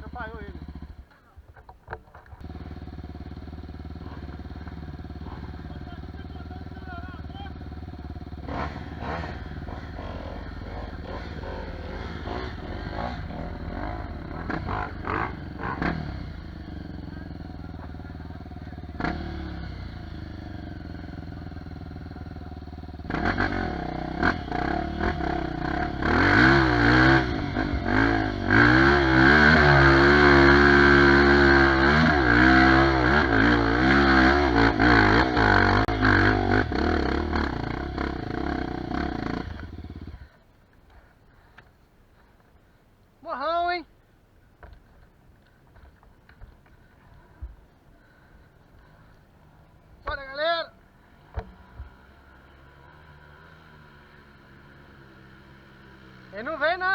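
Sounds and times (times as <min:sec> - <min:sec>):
motorcycle engine revving: 0:00.0 - 0:40.4, 0:48.0 - 0:56.9
distant engine: 0:00.0 - 0:42.3, 0:45.4 - 0:56.9.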